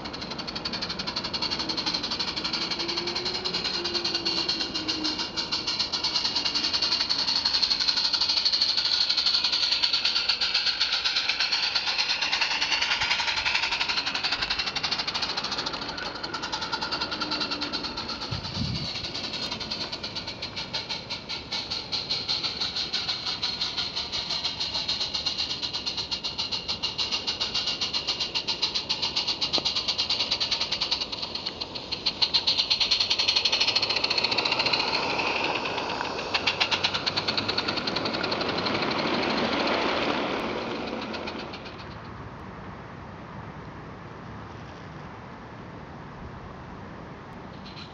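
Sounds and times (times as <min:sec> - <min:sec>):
steam locomotive chuffing: 0:00.0 - 0:42.2, 0:47.4 - 0:47.9.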